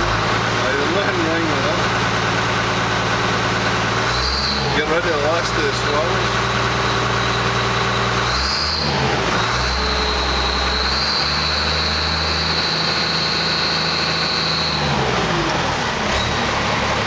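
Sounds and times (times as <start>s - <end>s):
tractor diesel engine revving: 0.0s - 17.0s.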